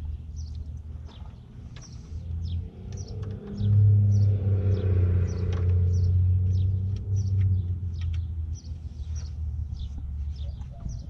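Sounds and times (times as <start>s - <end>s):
birds chirping: 0.0s - 11.0s
vehicle engine rumbling past: 1.0s - 10.6s.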